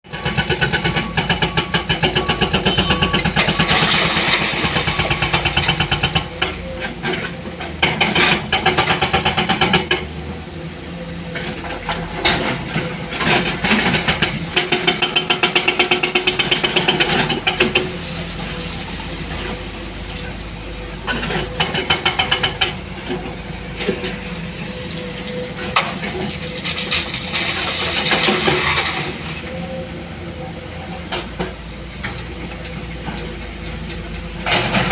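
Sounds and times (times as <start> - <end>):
heavy machinery diesel engines: 0.1 - 34.9.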